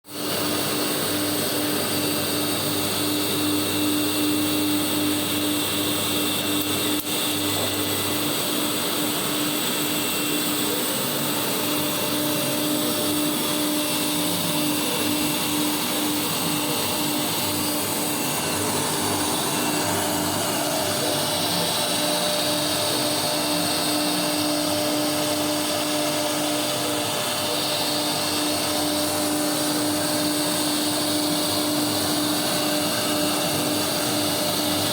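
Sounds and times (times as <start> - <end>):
vacuum cleaner: 0.0 - 34.9
engraving router running: 0.2 - 34.9.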